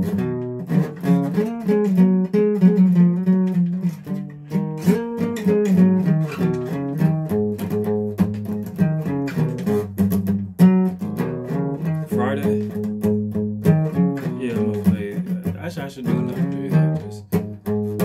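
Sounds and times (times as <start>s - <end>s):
guitar playing: 0.0s - 18.0s.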